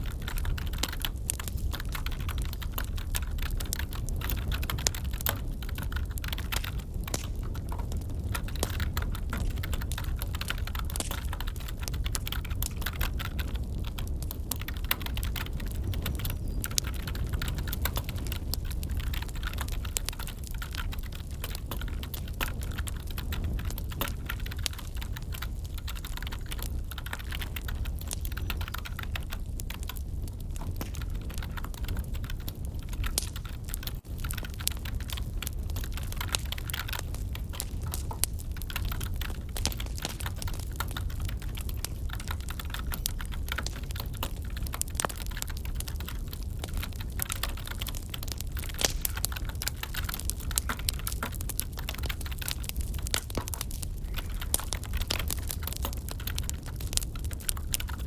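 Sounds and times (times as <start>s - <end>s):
fast typing on a keyboard: 0.0s - 58.0s
wood fire crackling: 0.0s - 58.0s.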